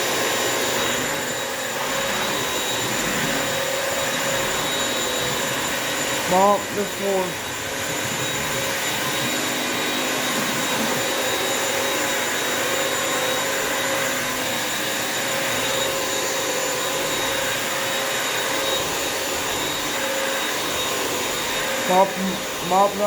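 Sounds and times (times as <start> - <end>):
vacuum mop motor running: 0.0 - 23.0.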